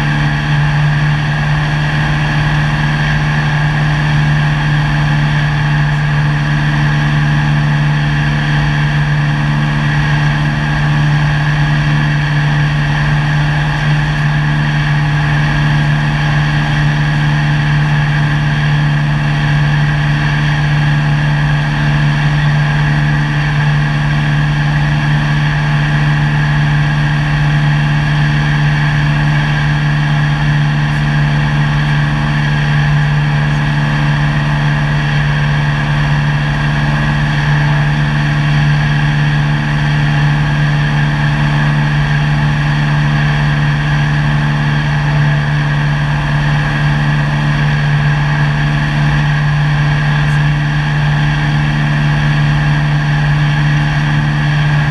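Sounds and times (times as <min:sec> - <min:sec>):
propeller plane engine in cabin: 0:00.0 - 0:54.9.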